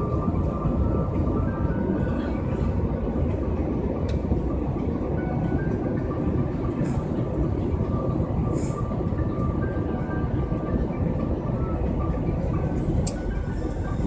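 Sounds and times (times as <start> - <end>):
vehicle rumble from inside: 0.0 - 14.0.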